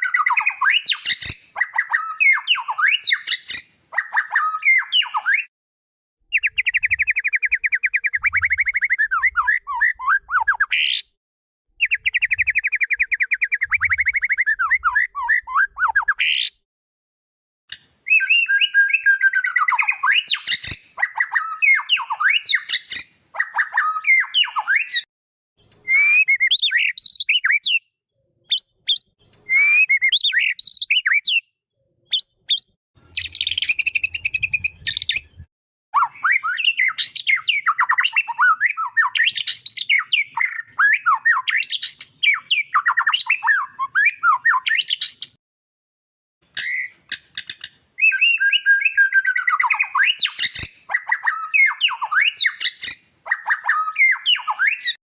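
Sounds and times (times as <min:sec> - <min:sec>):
bird singing chirps and whistles: 0:00.0 - 0:05.5, 0:06.3 - 0:11.1, 0:11.8 - 0:16.6, 0:17.7 - 0:45.4, 0:46.6 - 0:47.0, 0:48.0 - 0:55.0.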